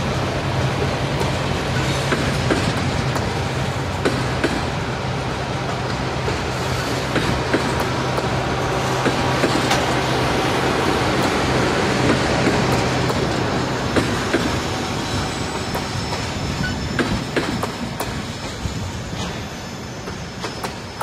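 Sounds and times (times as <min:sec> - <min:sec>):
clacks over rail joints: 0:00.0 - 0:21.0
train wheels rumbling: 0:00.0 - 0:21.0.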